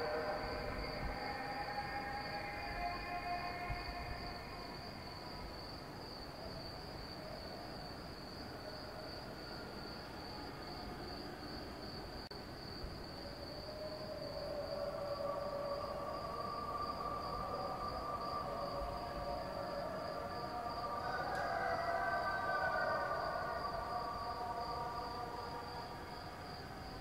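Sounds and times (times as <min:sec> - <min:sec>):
distant calls to prayer: 0:00.0 - 0:11.4, 0:13.2 - 0:27.0.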